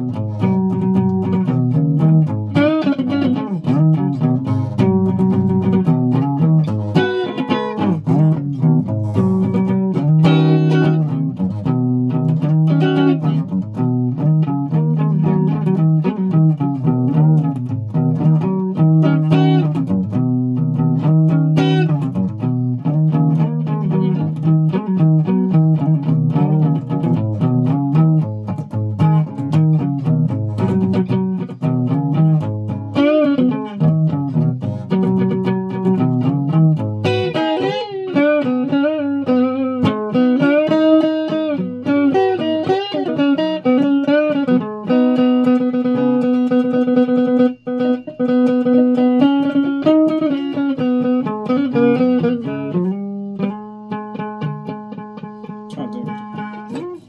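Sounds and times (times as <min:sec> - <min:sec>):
guitar plucked notes: 0:00.0 - 0:57.0.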